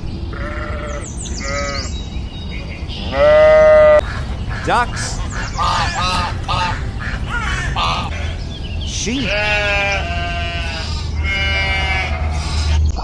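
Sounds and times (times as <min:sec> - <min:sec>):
sheep bleating: 0:00.3 - 0:02.0, 0:03.1 - 0:12.8
ducks quacking: 0:00.3 - 0:13.0.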